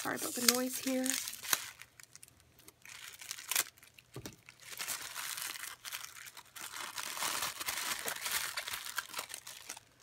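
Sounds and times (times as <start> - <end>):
gift wrap crinkling and tearing: 0.0 - 10.0
sharp paper crackle: 0.0 - 10.0.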